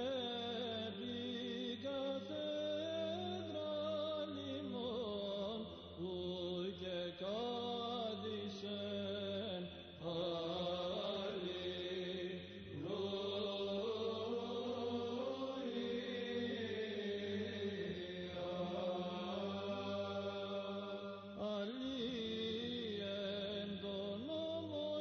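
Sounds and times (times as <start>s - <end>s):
slow sung chant: 0.0s - 25.0s.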